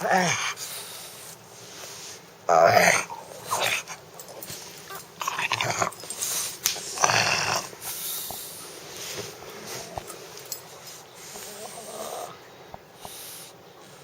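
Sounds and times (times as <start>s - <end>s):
puppy breathing and grunting: 0.0s - 14.0s.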